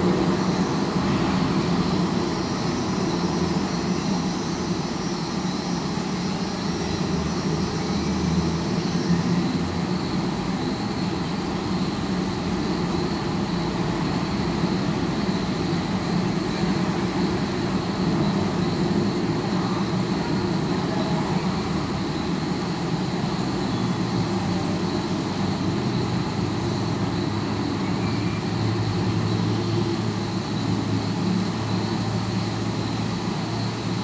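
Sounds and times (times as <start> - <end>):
distant traffic rumble: 0.0 - 34.0.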